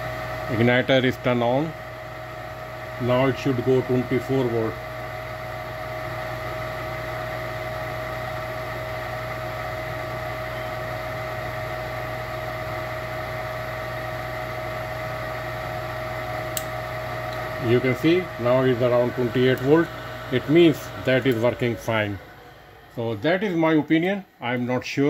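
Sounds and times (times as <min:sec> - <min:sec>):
furnace blower humming: 0:00.0 - 0:25.0.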